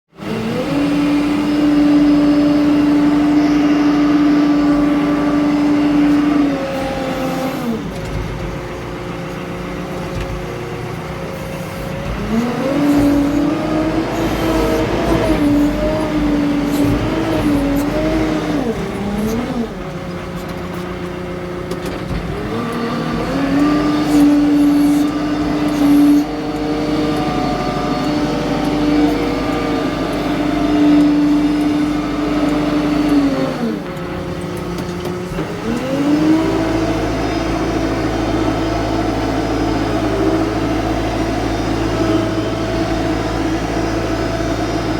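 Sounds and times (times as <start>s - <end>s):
diesel engine revving: 0.1s - 44.9s.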